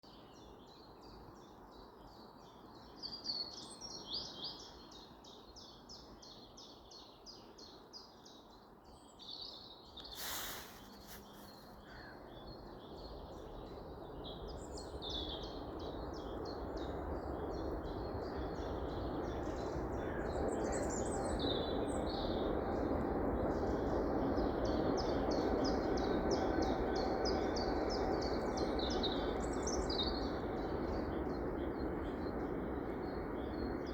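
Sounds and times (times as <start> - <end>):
songbirds dawn chorus: 0.0 - 33.9.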